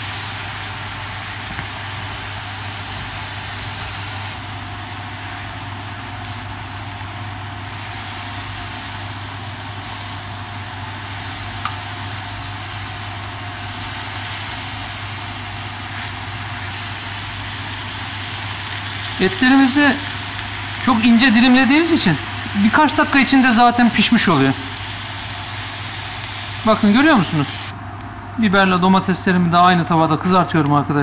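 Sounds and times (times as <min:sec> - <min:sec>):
beef sizzling in frying pan: 0:00.0 - 0:27.7.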